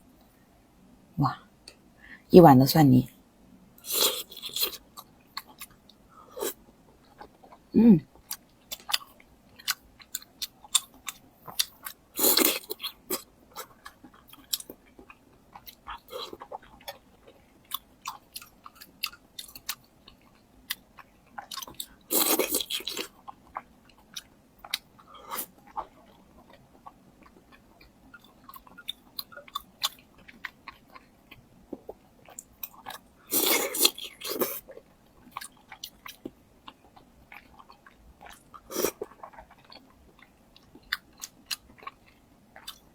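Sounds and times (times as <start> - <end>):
person chewing: 3.8 - 42.9.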